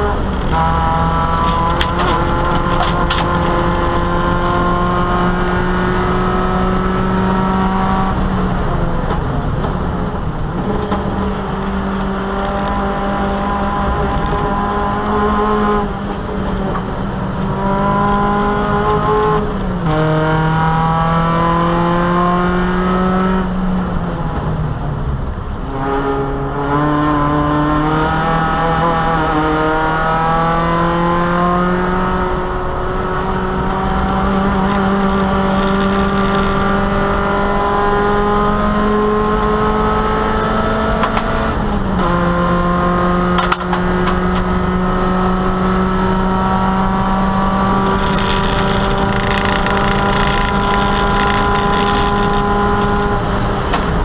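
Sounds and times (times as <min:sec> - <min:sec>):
car engine accelerating hard: 0:00.0 - 0:54.0.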